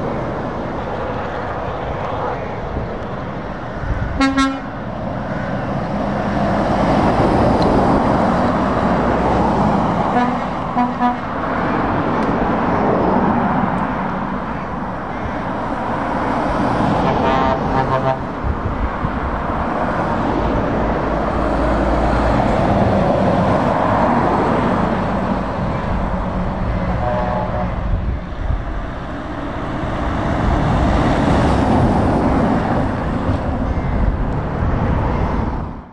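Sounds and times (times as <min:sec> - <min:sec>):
heavy lorries driving past: 0:00.0 - 0:35.9.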